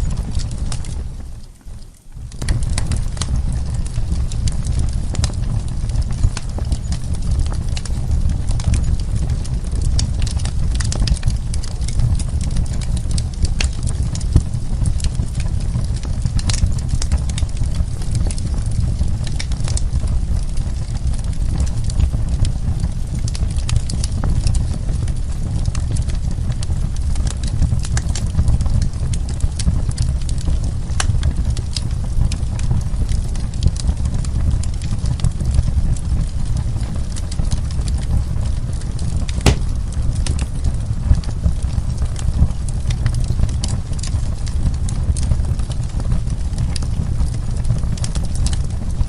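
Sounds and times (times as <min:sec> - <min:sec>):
burning logs crackling and popping: 0:00.0 - 0:49.0
low rumble of flames: 0:00.0 - 0:49.0.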